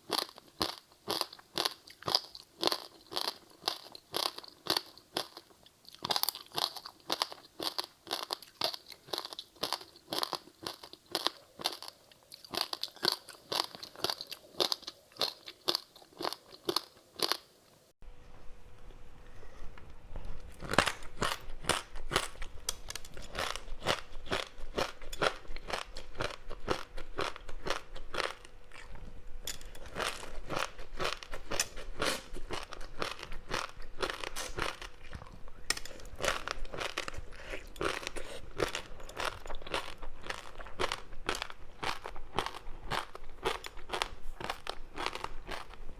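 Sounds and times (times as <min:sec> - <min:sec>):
crunchy chewing: 0:00.0 - 0:17.5, 0:20.2 - 0:45.9.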